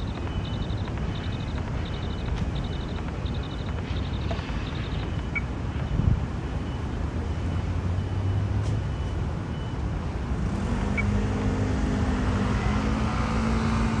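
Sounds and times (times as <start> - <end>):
rumble of passing traffic: 0.0 - 14.0
vehicle engine hum: 0.0 - 14.0.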